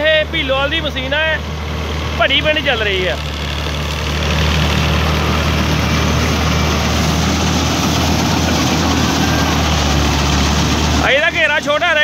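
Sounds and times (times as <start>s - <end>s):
combine harvester engine drone: 0.0s - 12.0s
rushing noise of machinery: 0.0s - 12.0s.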